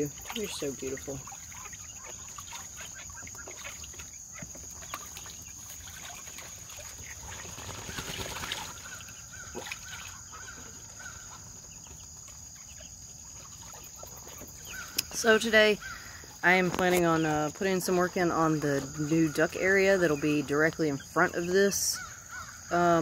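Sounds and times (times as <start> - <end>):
bird calls: 0.0 - 23.0
ducks splashing in water: 0.0 - 23.0
insect drone: 0.0 - 23.0.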